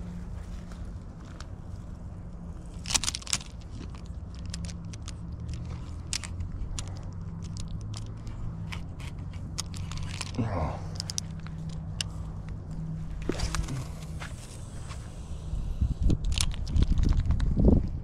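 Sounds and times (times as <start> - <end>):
sharp clicks and crunches: 0.0 - 15.1, 16.0 - 18.0
low steady hum: 0.0 - 18.0.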